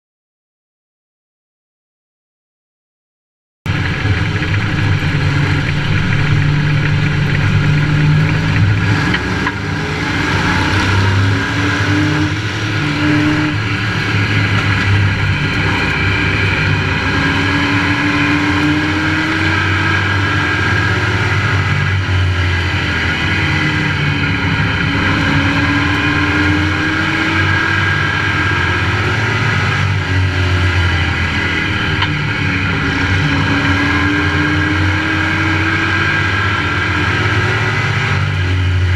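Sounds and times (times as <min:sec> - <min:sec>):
race truck engine revving: 0:03.7 - 0:38.9
wind and road noise: 0:03.7 - 0:38.9.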